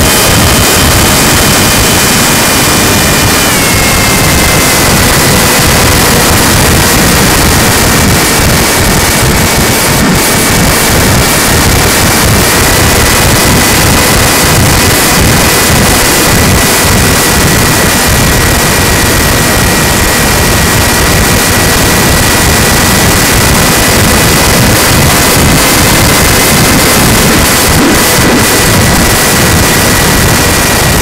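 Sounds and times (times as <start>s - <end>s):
thin high motor whine: 0.0s - 31.0s
wind on microphone: 0.0s - 31.0s.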